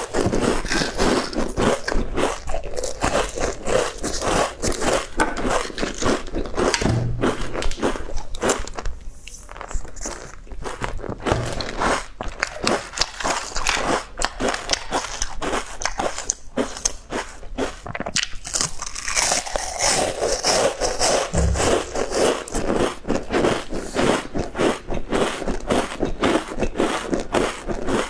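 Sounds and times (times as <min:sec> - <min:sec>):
crunchy pastry chewing: 0:00.0 - 0:06.8, 0:07.5 - 0:21.3, 0:22.4 - 0:28.0.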